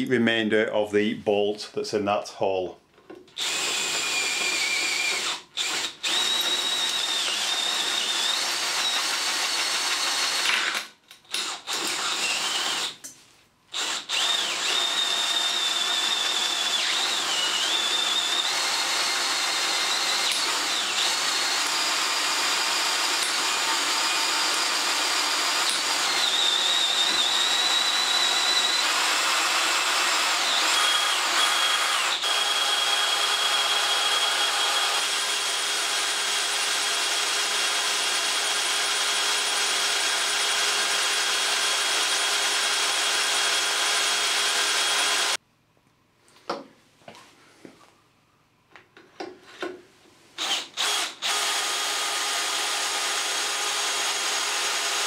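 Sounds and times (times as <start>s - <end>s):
cordless drill whining: 3.3s - 13.1s, 13.7s - 45.4s, 50.4s - 55.0s.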